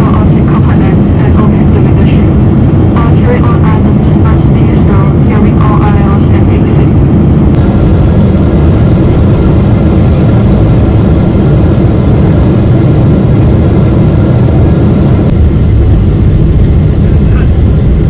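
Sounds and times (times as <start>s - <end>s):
airplane cabin rumble: 0.0s - 18.0s
high engine whine: 0.0s - 18.0s.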